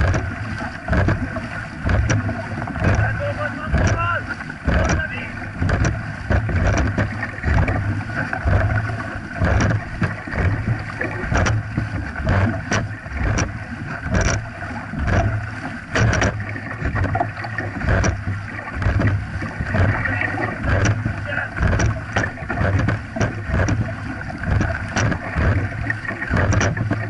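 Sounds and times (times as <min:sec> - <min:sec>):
paddles digging into water: 0:00.0 - 0:27.0
water rushing along hull: 0:00.0 - 0:27.0
wind buffeting microphone: 0:00.0 - 0:27.0.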